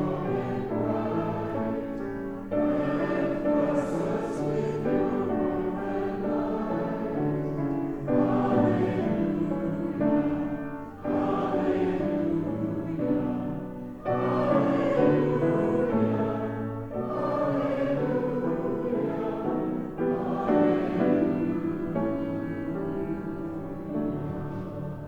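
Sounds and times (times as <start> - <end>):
group singing a hymn: 0.0 - 25.0.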